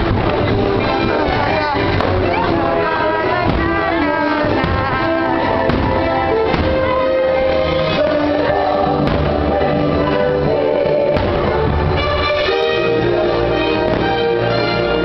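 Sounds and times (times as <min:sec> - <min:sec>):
fireworks bursting: 0:00.0 - 0:14.6
loud music with singing: 0:00.0 - 0:15.0.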